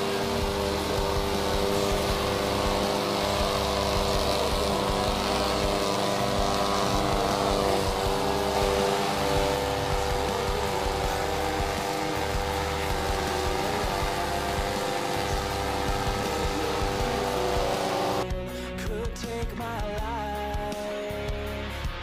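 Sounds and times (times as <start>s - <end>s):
mower engine running: 0.0s - 18.7s.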